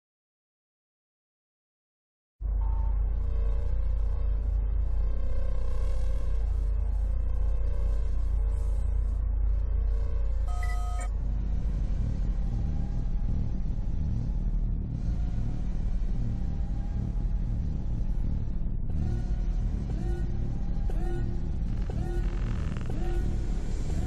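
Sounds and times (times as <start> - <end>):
steady low rumble: 2.4 - 24.0.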